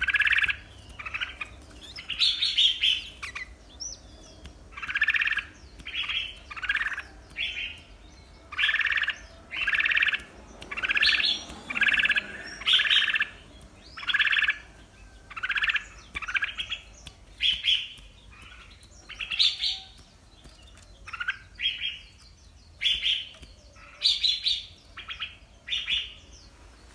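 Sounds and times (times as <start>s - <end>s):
bird warbling song: 0.0s - 26.9s.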